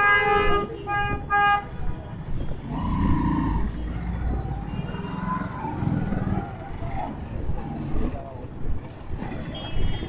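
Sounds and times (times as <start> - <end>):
rumble of engines in traffic: 0.0 - 10.0.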